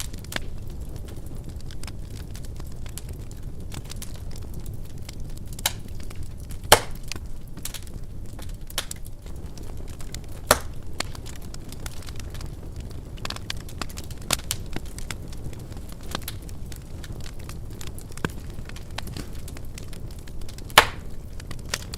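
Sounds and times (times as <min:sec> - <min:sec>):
sharp fire pops: 0:00.0 - 0:21.9
wood fire crackling: 0:00.0 - 0:21.9.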